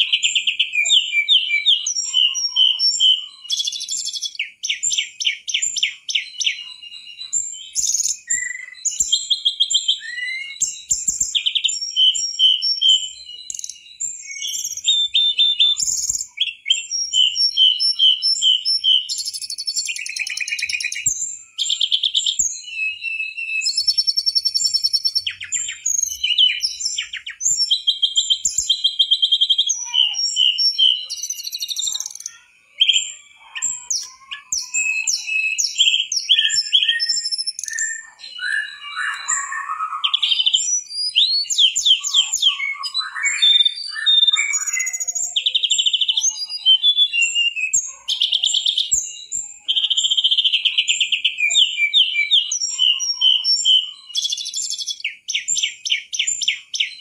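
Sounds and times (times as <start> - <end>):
bird singing trills and whistles: 0.0 - 57.0.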